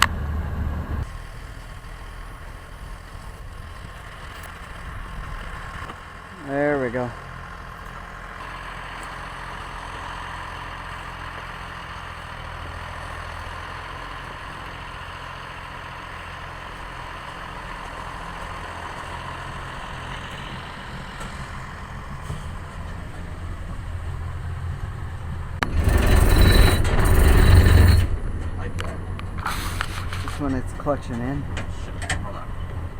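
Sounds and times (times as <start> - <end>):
loud rough engine noise: 0.0 - 32.9
small engine idling: 0.0 - 32.9.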